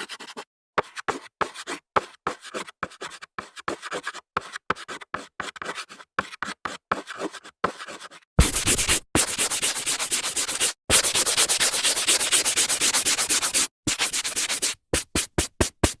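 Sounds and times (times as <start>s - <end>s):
chalk scraping on blackboard: 0.0s - 16.0s.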